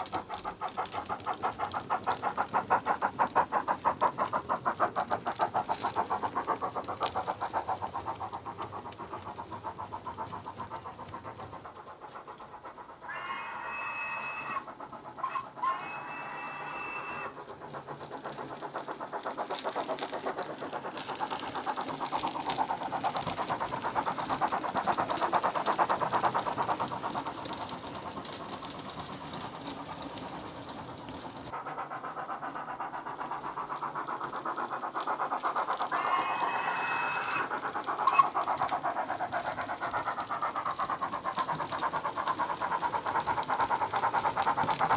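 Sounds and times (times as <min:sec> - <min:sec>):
model steam locomotive chuffs: 0:00.0 - 0:44.9.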